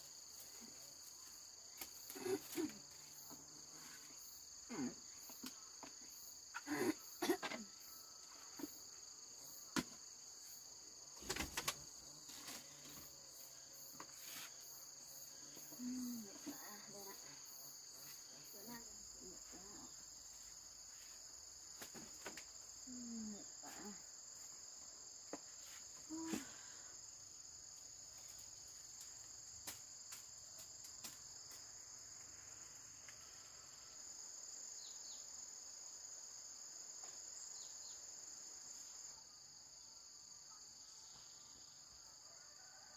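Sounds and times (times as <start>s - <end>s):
night insects chirping: 0.0s - 42.9s.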